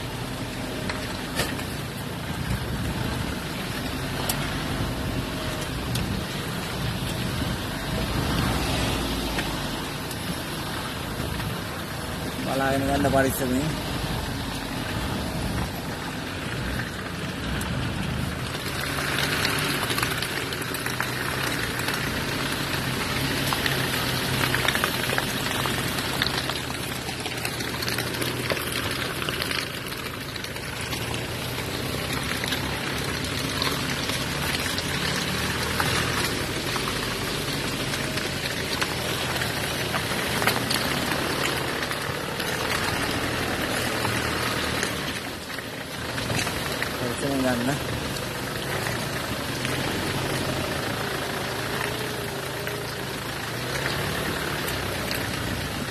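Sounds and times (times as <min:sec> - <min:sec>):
vehicle engine running low speed: 0:00.0 - 0:55.9
water and mud splashing: 0:00.0 - 0:55.9.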